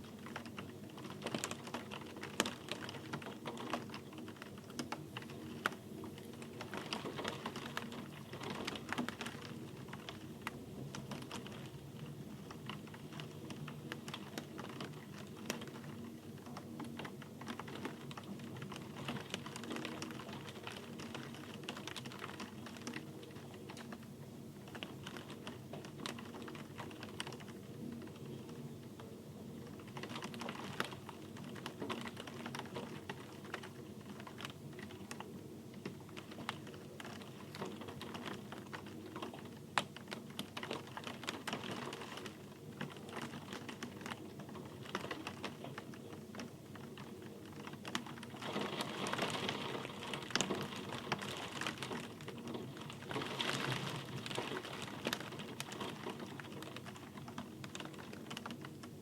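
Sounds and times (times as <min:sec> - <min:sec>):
rain falling: 0:00.0 - 0:24.0, 0:24.6 - 0:59.0.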